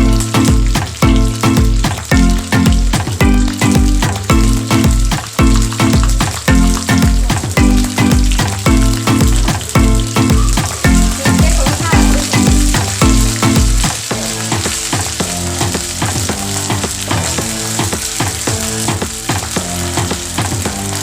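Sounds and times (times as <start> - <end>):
music with a steady beat: 0.0 - 21.0
oil sizzling in a pan: 0.0 - 21.0.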